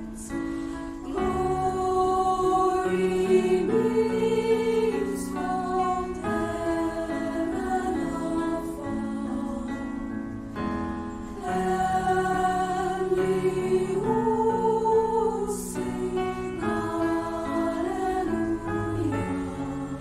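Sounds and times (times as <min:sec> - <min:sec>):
choir singing slow song: 0:00.0 - 0:20.0.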